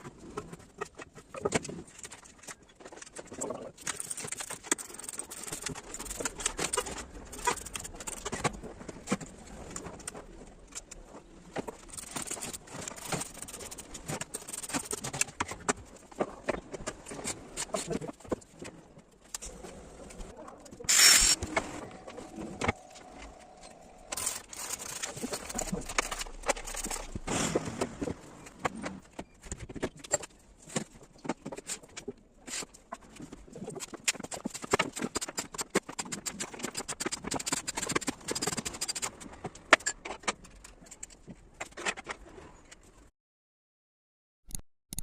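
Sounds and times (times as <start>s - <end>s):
hardware clicking and rattling: 0.3s - 19.5s, 22.5s - 27.3s, 29.4s - 42.2s.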